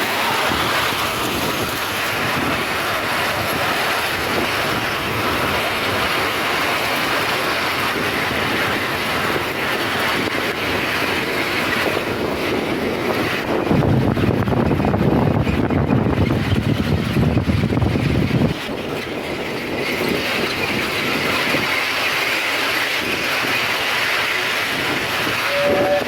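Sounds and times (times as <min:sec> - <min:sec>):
miniature train wheels on rails: 0:00.0 - 0:26.0.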